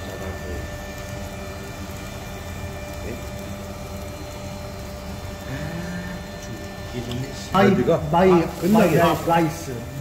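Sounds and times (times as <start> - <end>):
extractor fan humming: 0.0 - 10.0
food sizzling on grill: 0.0 - 10.0.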